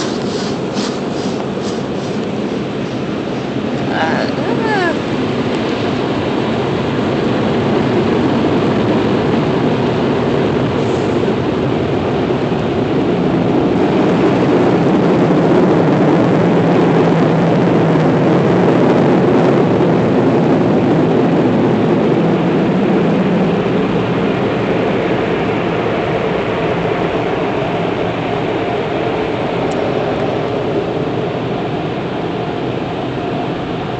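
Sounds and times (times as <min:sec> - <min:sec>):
car wash machinery and spray: 0:00.0 - 0:33.9.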